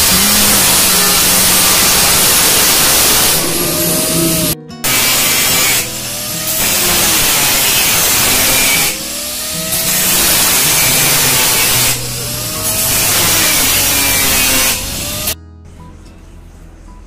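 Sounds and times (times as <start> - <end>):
angle grinder cutting steel: 0.0 - 15.4
grinder motor whine: 0.0 - 15.4.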